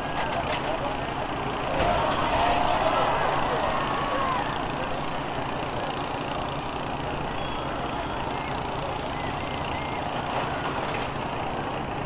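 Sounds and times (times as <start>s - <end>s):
bus engines rumbling: 0.0s - 12.0s.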